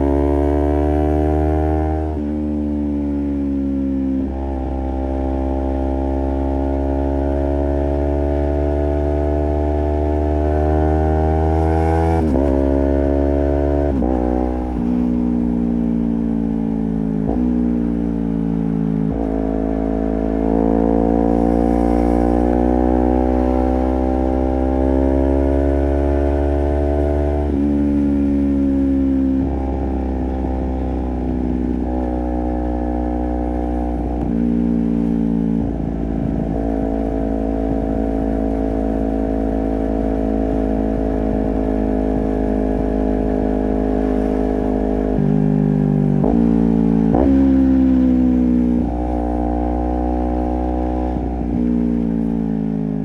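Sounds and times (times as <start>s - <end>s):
motorcycle engine revving through gears: 0.0s - 53.0s.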